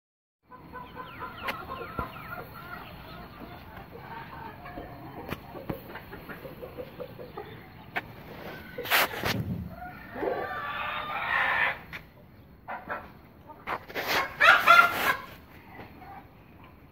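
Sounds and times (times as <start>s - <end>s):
chickens clucking: 0.5s - 16.9s.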